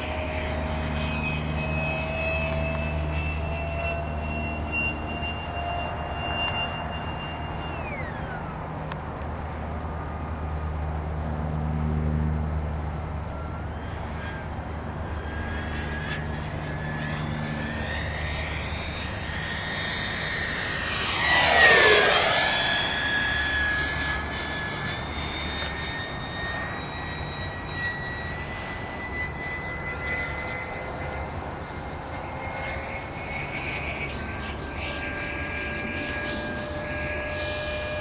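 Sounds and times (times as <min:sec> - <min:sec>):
electric jet fan whining: 0:00.0 - 0:38.0.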